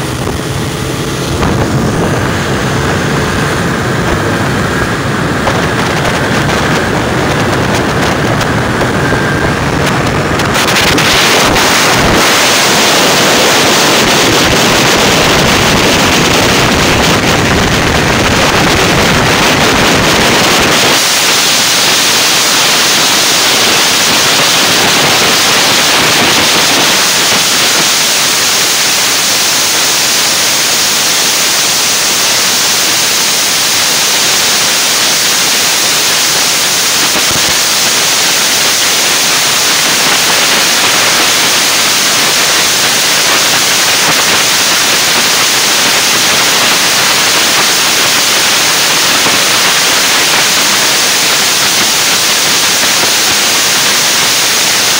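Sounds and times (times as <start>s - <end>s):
steady hissing rush: 0.0s - 54.9s.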